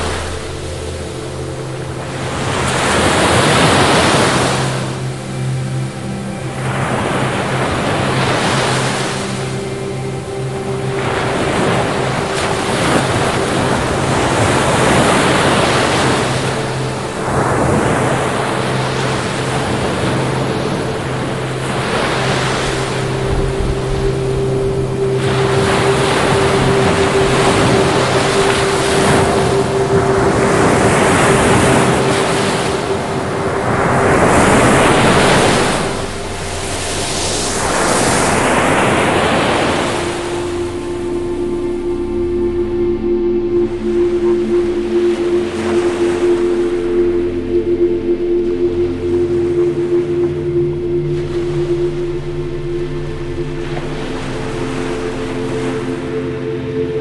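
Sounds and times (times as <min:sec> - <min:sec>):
faint steady hum: 0:00.0 - 0:57.0
waves breaking: 0:00.0 - 0:57.0.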